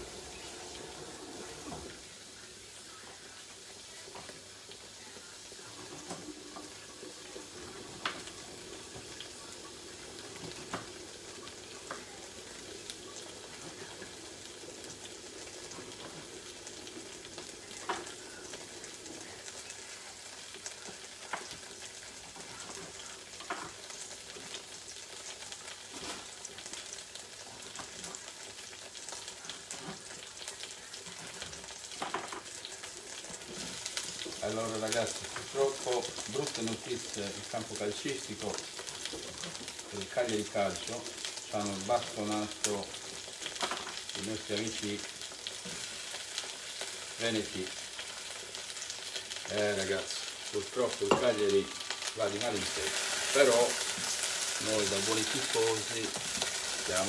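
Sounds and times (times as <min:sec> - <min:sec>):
aubergine sizzling in a pan: 0:00.0 - 0:57.0.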